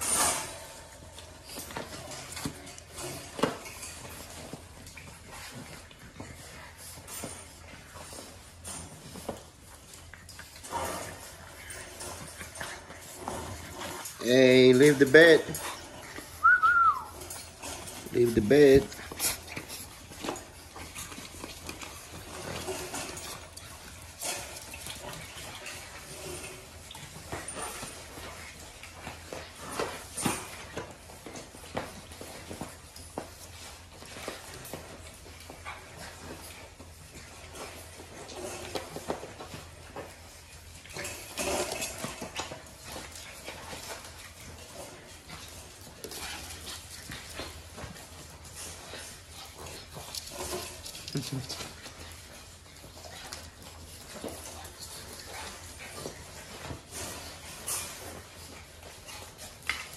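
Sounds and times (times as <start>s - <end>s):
puppies making little noises: 0.0s - 59.9s
puppy paws clicking on tiles: 0.0s - 59.9s.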